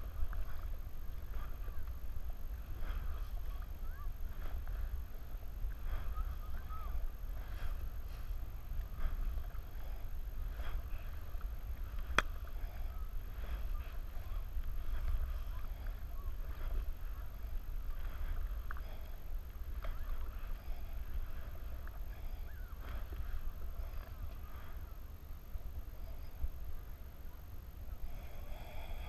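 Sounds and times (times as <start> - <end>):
paddle splashing through water: 0.0 - 24.9
steady low rumble: 0.0 - 29.0.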